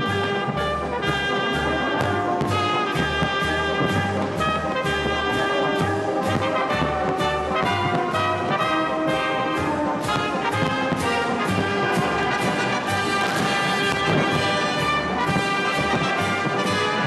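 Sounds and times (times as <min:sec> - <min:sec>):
brass orchestra playing: 0:00.0 - 0:17.0
steady beat: 0:00.0 - 0:17.0.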